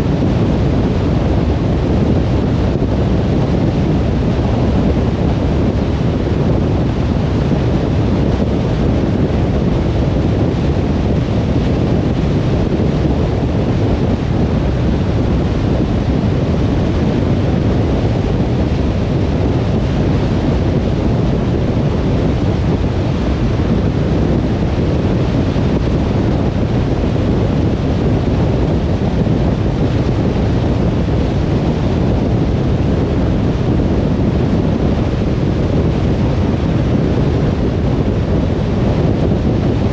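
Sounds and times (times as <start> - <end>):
car tyre and wind rumble: 0.0 - 39.9.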